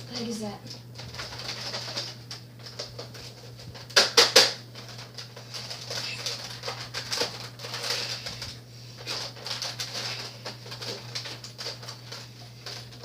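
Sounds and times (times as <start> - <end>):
plastic blaster pump clacks: 1.0 - 13.0.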